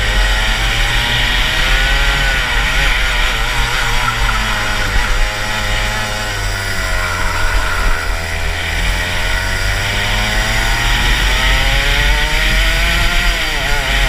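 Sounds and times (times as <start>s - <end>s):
kart engine revving: 0.0s - 14.0s
wind rumble on microphone: 0.0s - 14.0s.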